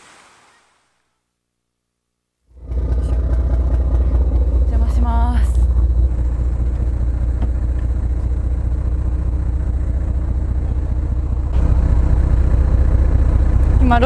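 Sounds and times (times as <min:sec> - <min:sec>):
boat engine rumbling: 0:02.6 - 0:14.0.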